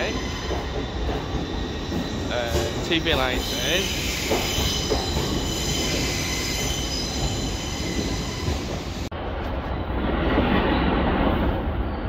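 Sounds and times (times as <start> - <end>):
rumbling railway noise: 0.0 - 12.0.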